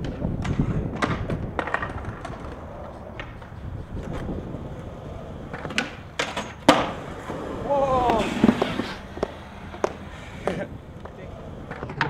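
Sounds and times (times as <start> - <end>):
skateboard clacks and slaps: 0.0 - 12.0
skateboard wheels rolling on concrete: 0.0 - 12.0.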